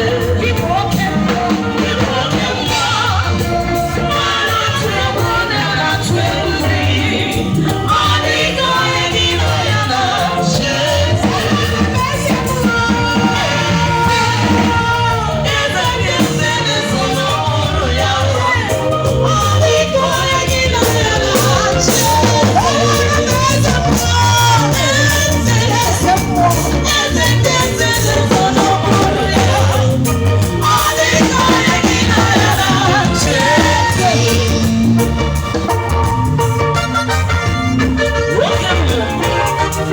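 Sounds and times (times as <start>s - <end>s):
bass guitar line: 0.0s - 39.9s
live band music: 0.0s - 39.9s
voices singing together: 0.0s - 39.9s.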